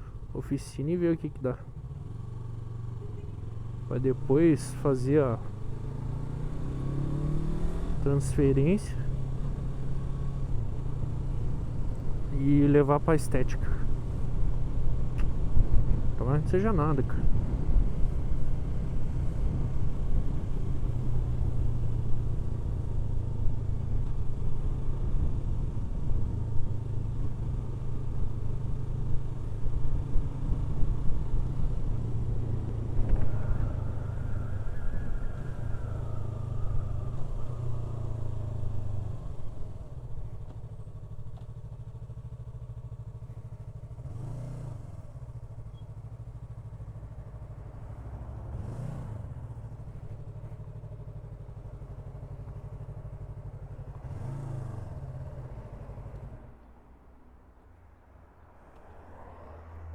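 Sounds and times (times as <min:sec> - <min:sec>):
motorcycle engine rumble: 0:00.0 - 0:59.9.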